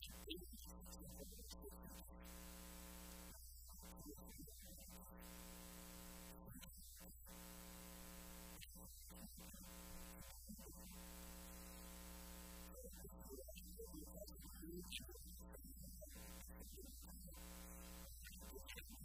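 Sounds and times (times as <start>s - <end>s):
electrical mains hum and hiss: 0.0s - 19.0s.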